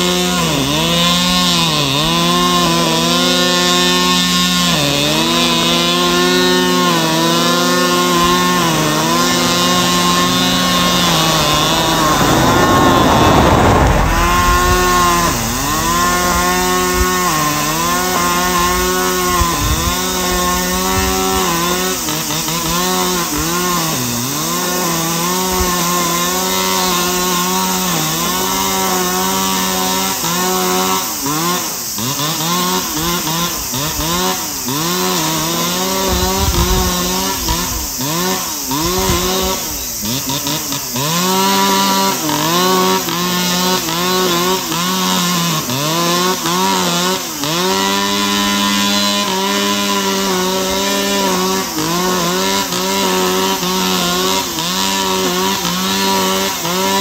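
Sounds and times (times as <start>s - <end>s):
brushcutter running at high revs: 0.0s - 57.0s.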